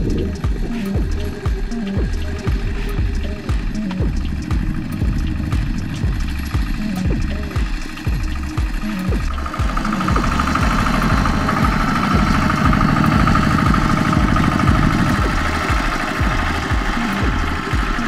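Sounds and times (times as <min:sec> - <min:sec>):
diesel engine knocking: 0:00.0 - 0:18.0.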